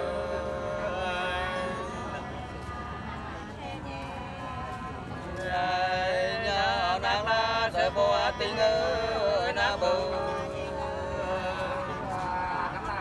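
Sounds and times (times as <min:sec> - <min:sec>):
two voices singing together: 0:00.0 - 0:13.0.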